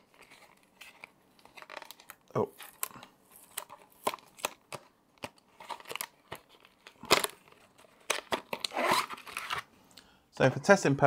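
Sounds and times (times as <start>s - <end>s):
cardboard box and packaging opened: 0.0s - 9.7s.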